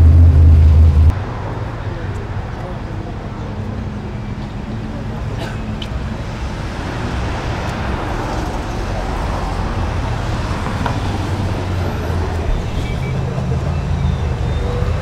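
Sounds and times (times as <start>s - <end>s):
cars going by: 0.0s - 15.0s.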